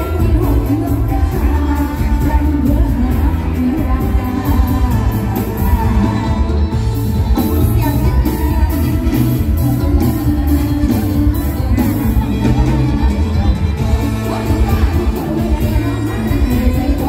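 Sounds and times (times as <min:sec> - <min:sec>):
person singing over band: 0:00.0 - 0:17.0.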